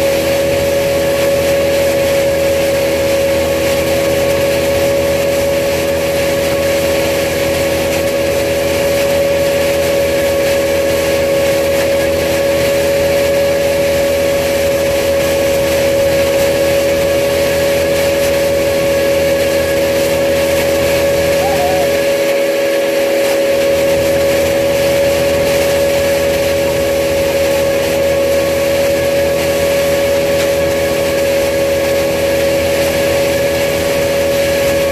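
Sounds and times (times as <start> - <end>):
wood chipper engine droning: 0.0 - 34.9.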